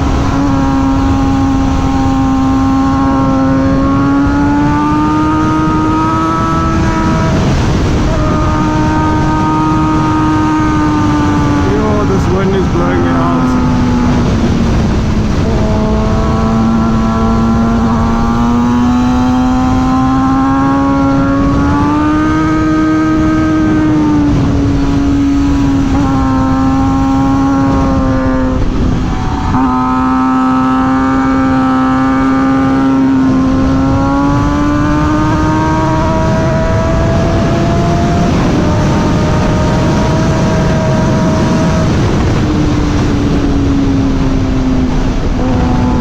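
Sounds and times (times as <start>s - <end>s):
motorcycle engine cruising: 0.0s - 46.0s
wind noise: 0.0s - 46.0s.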